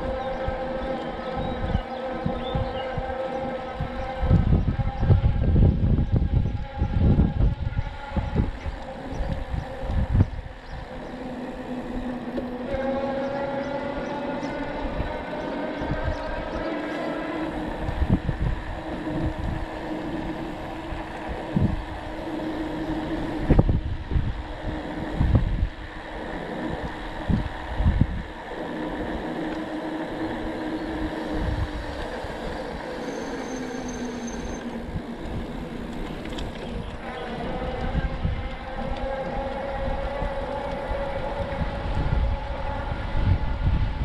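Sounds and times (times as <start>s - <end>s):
droning road hum: 0.0s - 44.0s
wind buffeting microphone: 0.0s - 44.0s.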